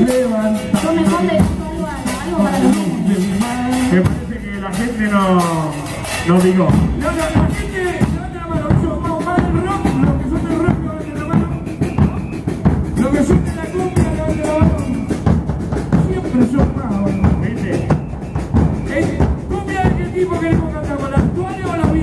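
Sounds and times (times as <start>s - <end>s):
bass drums: 0.0s - 22.0s
cymbals: 0.0s - 22.0s
melody over drumming: 0.0s - 22.0s
snare drums: 0.0s - 22.0s.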